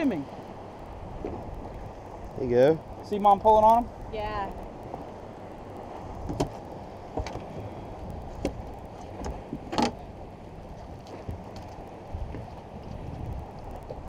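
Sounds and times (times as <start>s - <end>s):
low rumble of wind and water: 0.0s - 14.0s.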